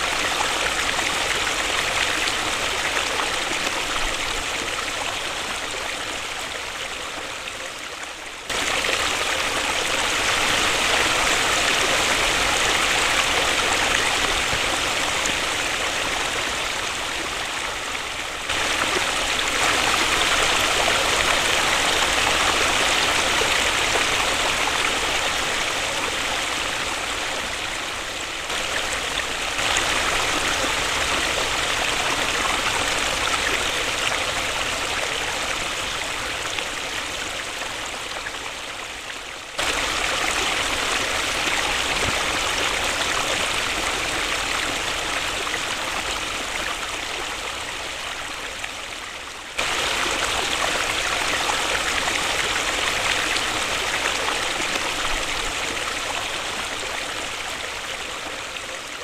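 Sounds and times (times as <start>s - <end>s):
waterfall rushing: 8.5s - 38.2s, 39.6s - 48.9s, 49.6s - 57.8s.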